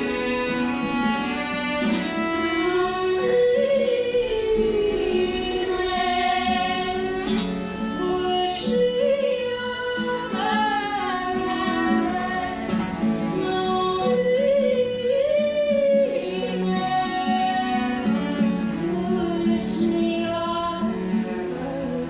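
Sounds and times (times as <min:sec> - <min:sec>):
bowed cello: 0:00.0 - 0:22.0
strummed acoustic guitar: 0:00.0 - 0:22.0
woman singing: 0:02.2 - 0:22.0.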